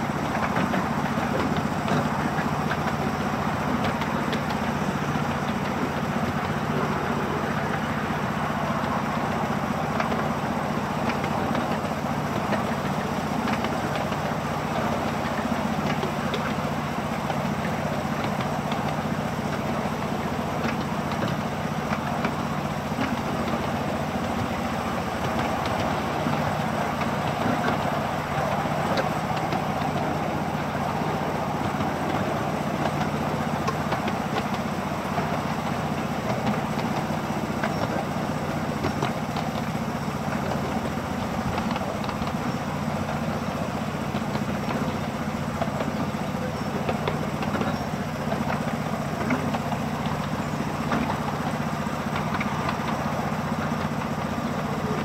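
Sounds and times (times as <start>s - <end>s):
miniature locomotive engine hum: 0.0s - 55.0s
train running rumble: 0.0s - 55.0s.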